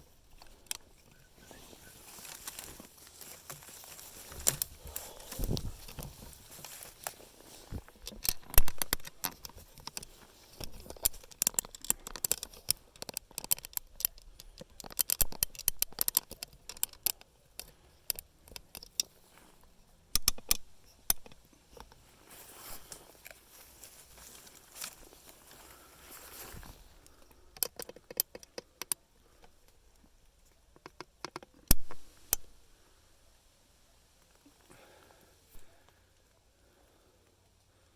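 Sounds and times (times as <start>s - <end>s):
sharp clicks and crackles: 0.3s - 19.2s, 20.1s - 22.0s, 22.7s - 32.6s.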